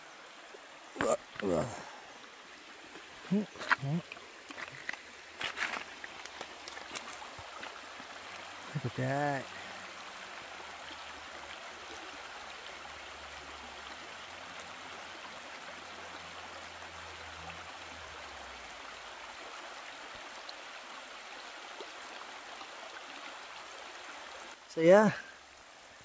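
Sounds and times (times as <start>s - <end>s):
creek flowing over rocks: 0.0s - 26.0s.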